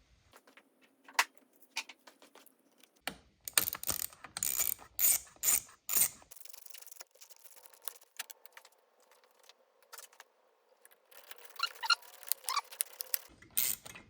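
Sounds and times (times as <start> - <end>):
metallic clicks of tools and bolts: 2.7 - 14.0.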